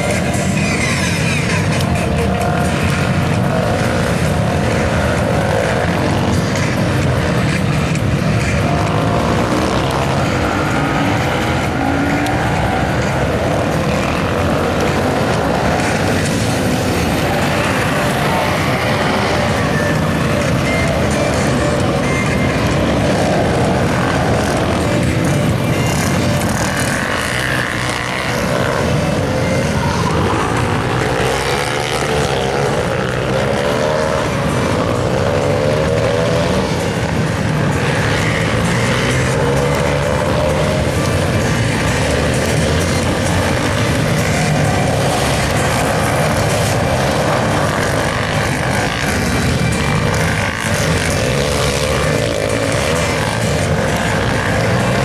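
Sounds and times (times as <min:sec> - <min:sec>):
motorcycles revving past: 0:00.0 - 0:55.0.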